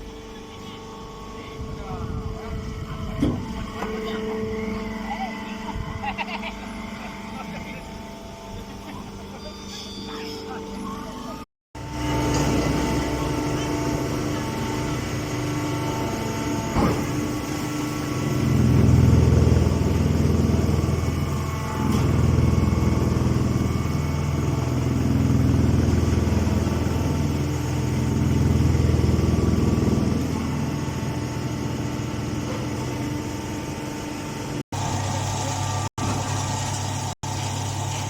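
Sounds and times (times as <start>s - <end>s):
straw baler machinery humming: 0.0s - 38.0s.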